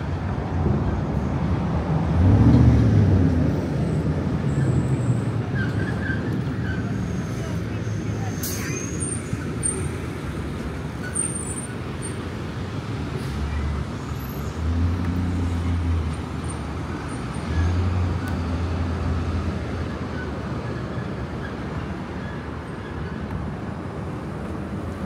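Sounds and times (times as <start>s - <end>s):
heavy vehicle engine rumble: 0.0s - 25.0s
passing vehicles: 0.0s - 25.0s.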